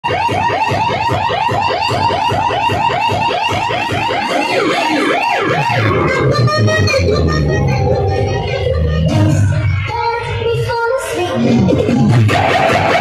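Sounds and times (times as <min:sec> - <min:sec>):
siren sound effect over loudspeakers: 0:00.0 - 0:13.0.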